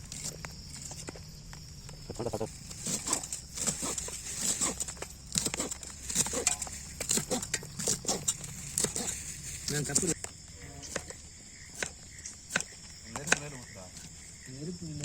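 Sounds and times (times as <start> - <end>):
irregular knocks and clicks: 0.0 - 14.3.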